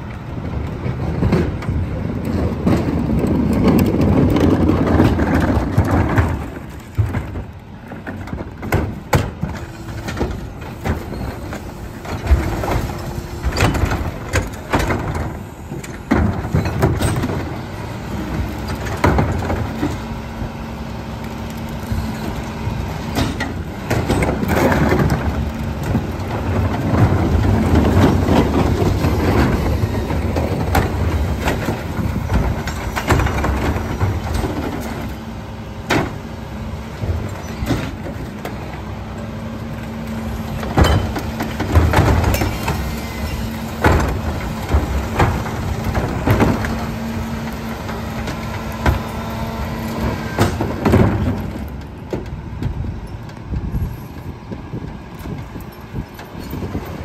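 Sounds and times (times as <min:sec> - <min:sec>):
carts knocking and clattering: 0:00.0 - 0:20.4, 0:22.7 - 0:53.9
garbage truck diesel engine: 0:00.0 - 0:57.0
load crunching: 0:00.0 - 0:57.0.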